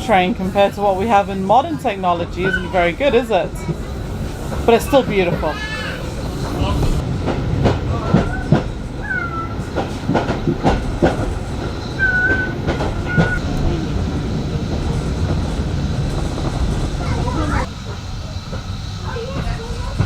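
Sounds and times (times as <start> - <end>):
high wheel squeals: 0.0 - 7.0, 7.9 - 20.0
railway carriage rumbling: 0.0 - 20.0
wheels clacking on track: 0.0 - 20.0.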